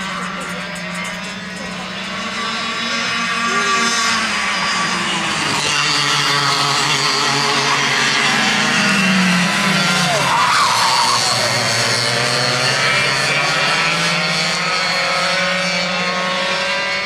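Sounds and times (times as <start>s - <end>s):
kart engines buzzing: 0.0s - 17.0s
kart passing close: 0.0s - 17.0s.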